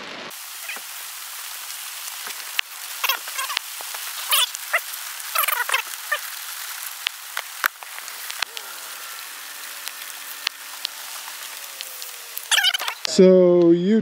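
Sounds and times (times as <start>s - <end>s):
steady air hiss: 0.3s - 13.2s.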